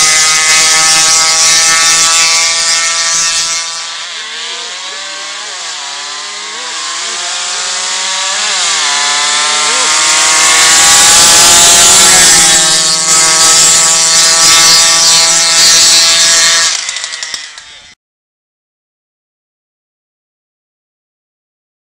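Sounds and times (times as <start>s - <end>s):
moped engines buzzing: 0.0s - 18.0s.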